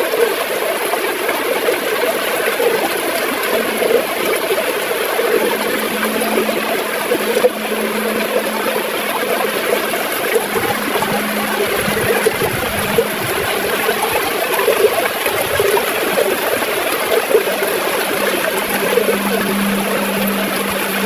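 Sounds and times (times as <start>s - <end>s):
river water flowing and gurgling: 0.0s - 21.0s.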